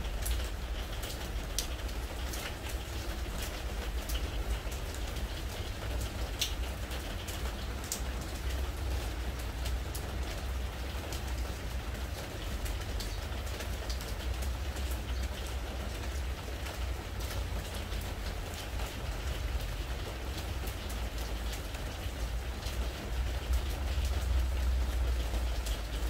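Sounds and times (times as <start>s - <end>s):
rain on a wooden deck: 0.0s - 26.0s.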